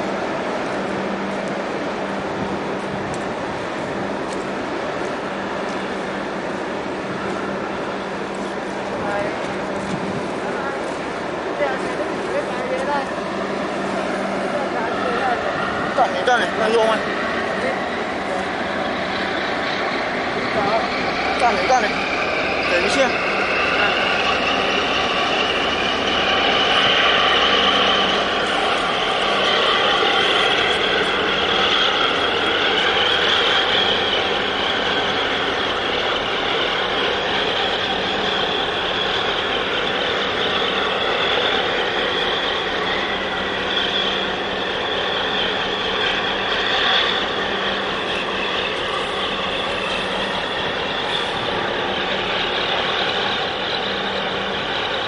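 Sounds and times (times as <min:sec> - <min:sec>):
ship engine drone: 0:00.0 - 0:55.0.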